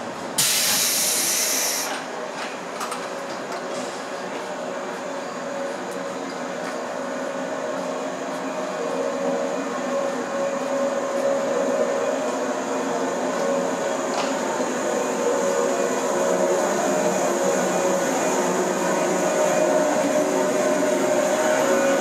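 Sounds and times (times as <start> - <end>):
passenger train rumbling past: 0.0 - 22.0.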